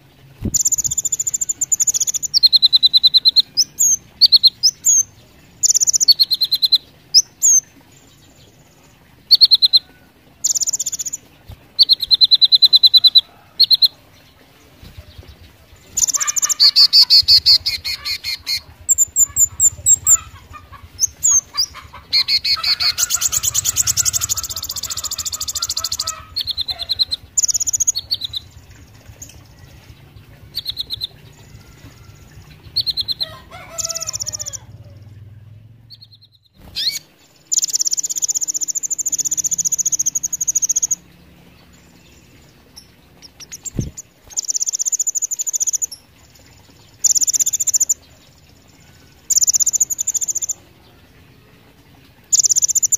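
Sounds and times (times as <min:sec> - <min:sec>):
bird trilling and chirping: 0:00.4 - 0:14.0, 0:14.8 - 0:52.9.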